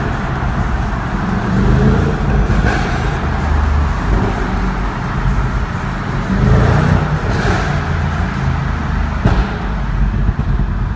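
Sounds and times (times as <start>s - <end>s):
car engine running: 0.0s - 10.9s
exhaust crackle: 0.0s - 10.9s.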